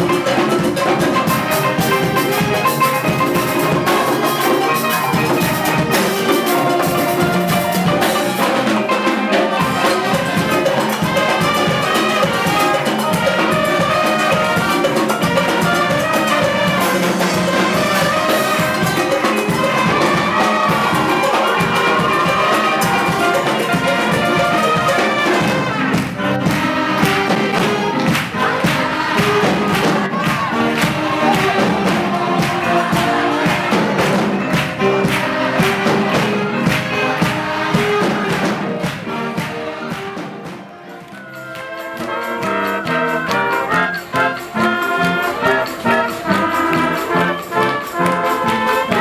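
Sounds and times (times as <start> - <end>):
lively brass band music: 0.0 - 49.0.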